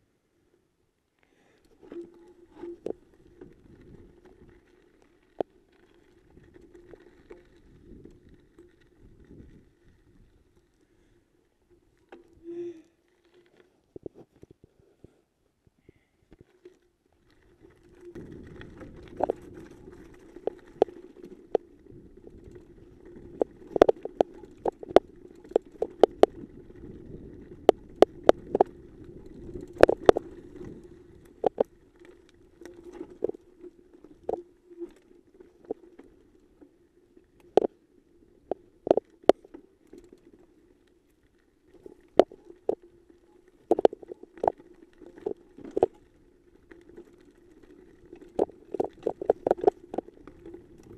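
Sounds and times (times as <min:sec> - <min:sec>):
mountain bike rattling over rocks: 0:01.6 - 0:14.6, 0:16.3 - 0:50.9.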